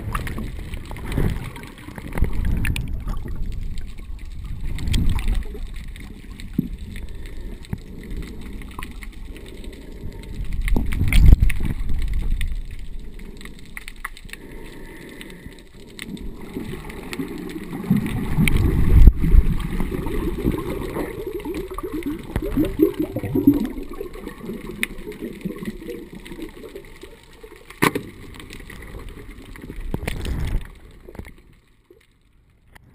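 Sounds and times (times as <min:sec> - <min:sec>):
underwater sloshing and bubbling: 0:00.0 - 0:32.9.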